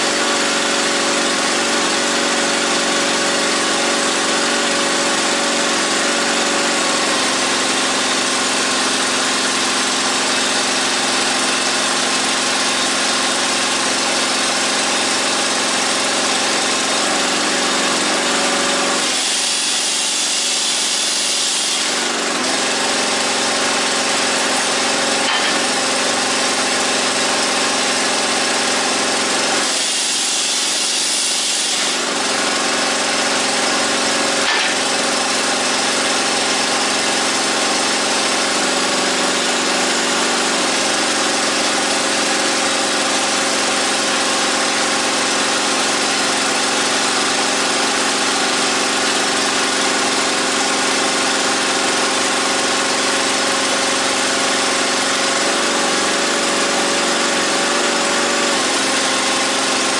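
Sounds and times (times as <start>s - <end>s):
hydraulic power unit running: 0.0s - 59.9s.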